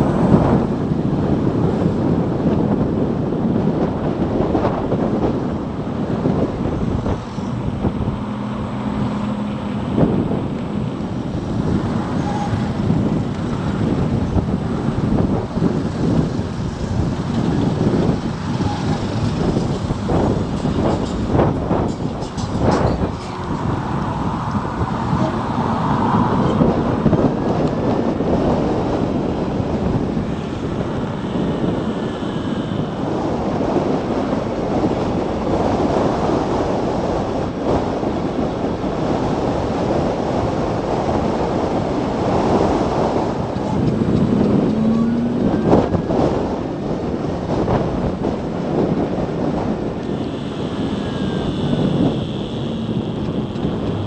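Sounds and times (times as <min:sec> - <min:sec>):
motorcycle road noise: 0:00.0 - 0:54.0
wind buffeting microphone: 0:00.0 - 0:54.0.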